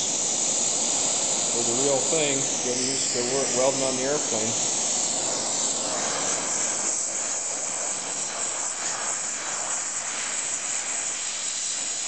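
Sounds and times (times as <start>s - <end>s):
welding torch flame hissing: 0.0s - 12.0s.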